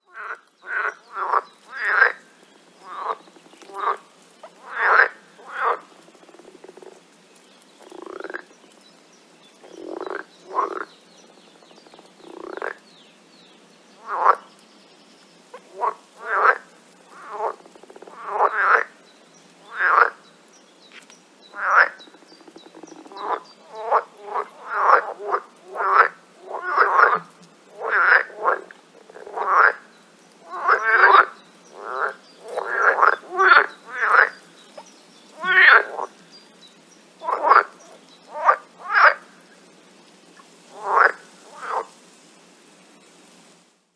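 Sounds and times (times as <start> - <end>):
frogs croaking: 0.0 - 13.0, 14.0 - 14.6, 15.4 - 20.6, 21.4 - 42.0.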